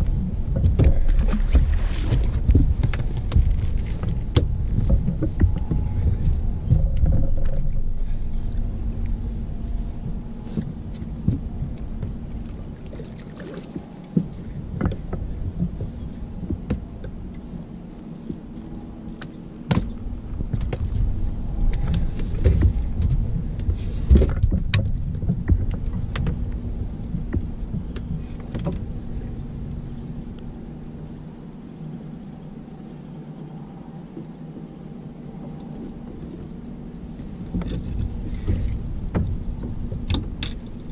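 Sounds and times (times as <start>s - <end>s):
knocks and clatter against boat: 0.0s - 31.2s, 34.0s - 40.9s
faint steady hum: 0.0s - 40.9s
wind rumble on microphone: 0.0s - 40.9s.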